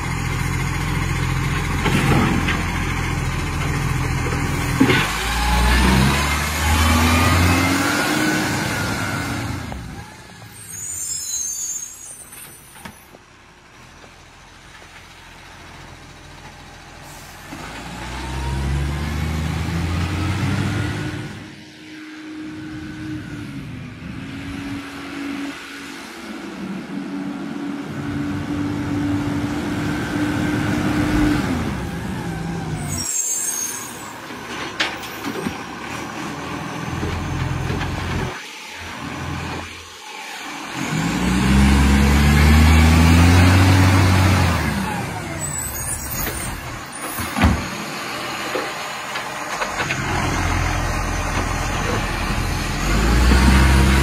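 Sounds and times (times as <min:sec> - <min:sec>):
truck engine running and revving: 0:00.0 - 0:11.0, 0:13.3 - 0:54.0.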